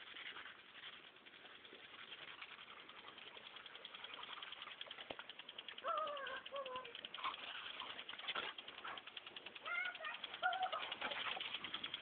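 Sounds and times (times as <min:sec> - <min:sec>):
impact lawn sprinkler ticking: 0:00.0 - 0:12.0.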